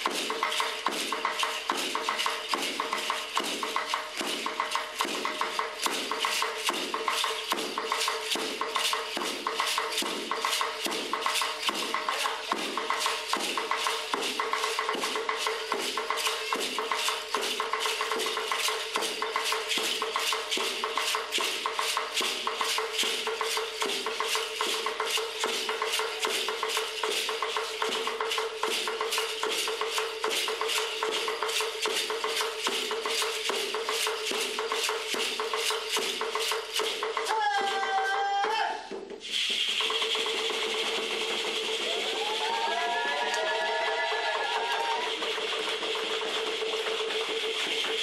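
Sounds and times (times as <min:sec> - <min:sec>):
rattles shaken: 0:00.0 - 0:37.9, 0:39.2 - 0:48.0.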